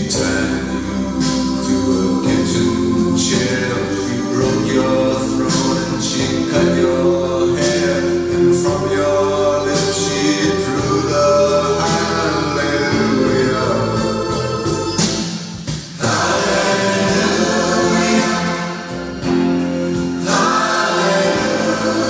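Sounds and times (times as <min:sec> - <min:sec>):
choir music with accompaniment: 0:00.0 - 0:22.0.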